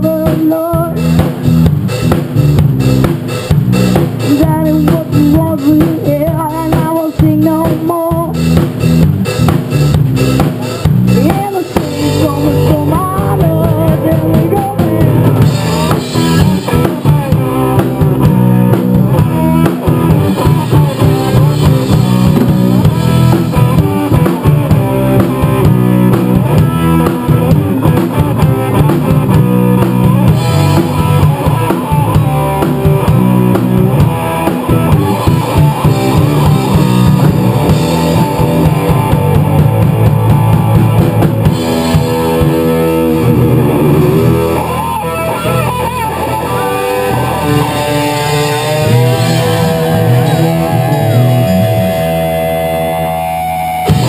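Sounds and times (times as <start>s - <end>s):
drum kit playing: 0.0s - 54.0s
electric guitars: 0.0s - 54.0s.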